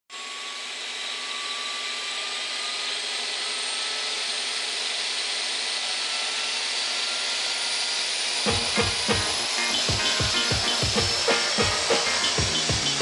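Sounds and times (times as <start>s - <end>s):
model helicopter rotors whirring: 0.1s - 13.0s.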